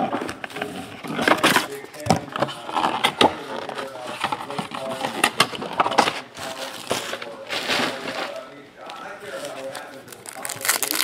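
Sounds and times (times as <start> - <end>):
packaging crinkling and crackling: 1.4 - 11.0.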